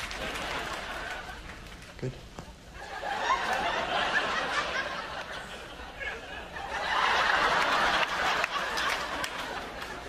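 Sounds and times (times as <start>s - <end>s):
audience laughing: 0.0s - 1.6s, 2.8s - 10.0s.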